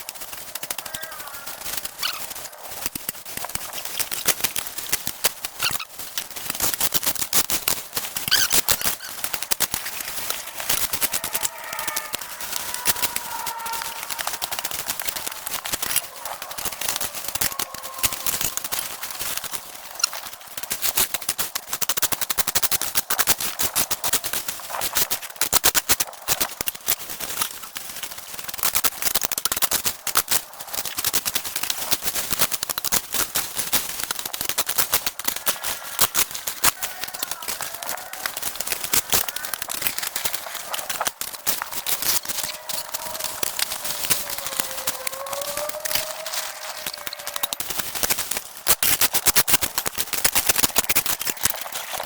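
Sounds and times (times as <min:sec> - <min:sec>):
rapid clicking and crackling: 0:00.0 - 0:52.0.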